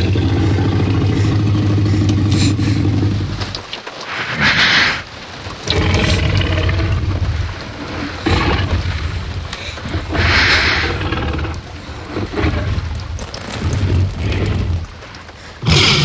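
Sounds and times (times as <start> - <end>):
dinosaur growls and roars: 0.0 - 3.7, 5.6 - 15.0, 15.6 - 16.0
loud breathy hiss: 0.0 - 7.1, 7.8 - 12.8, 13.6 - 16.0.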